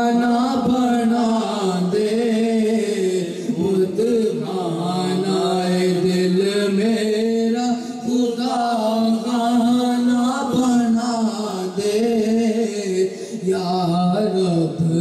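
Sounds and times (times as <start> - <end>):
man chanting in long held notes: 0.0 - 15.0.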